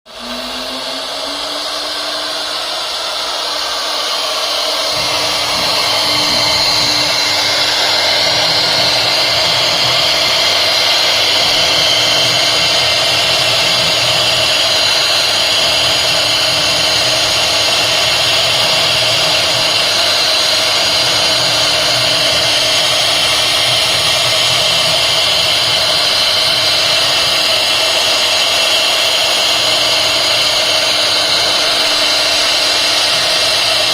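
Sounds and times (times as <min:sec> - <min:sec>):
router spindle whine: 0:00.0 - 0:33.9.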